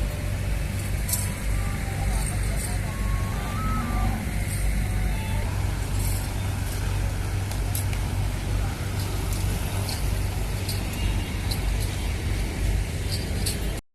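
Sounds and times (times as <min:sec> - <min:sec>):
outdoor background noise: 0:00.0 - 0:13.8
vehicle engine idling: 0:00.0 - 0:13.8.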